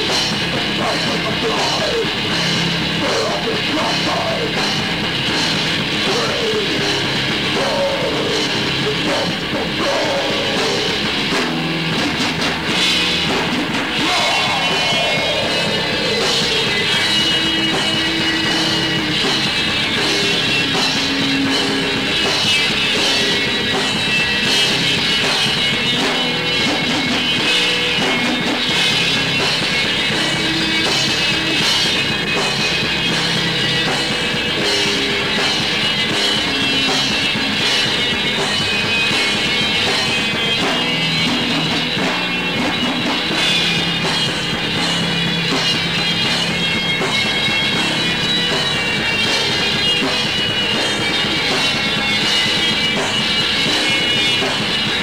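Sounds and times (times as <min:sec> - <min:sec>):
metal band playing: 0:00.0 - 0:55.0.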